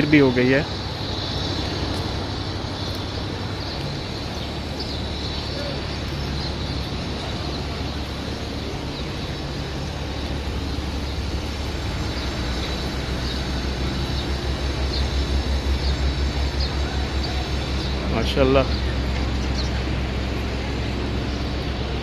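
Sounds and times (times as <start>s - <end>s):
low buffeting: 0.0s - 22.0s
outdoor rumble and hiss: 0.0s - 22.0s
small birds chirping: 0.0s - 22.0s.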